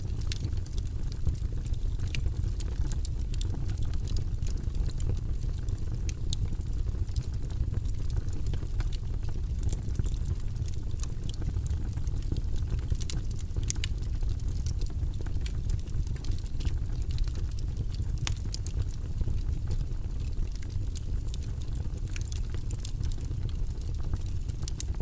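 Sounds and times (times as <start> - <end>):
burning wood crackling and popping: 0.0 - 25.0
low rumble of flames: 0.0 - 25.0.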